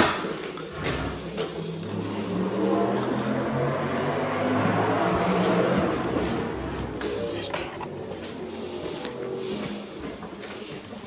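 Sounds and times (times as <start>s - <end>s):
vehicle engine humming: 1.1s - 10.0s.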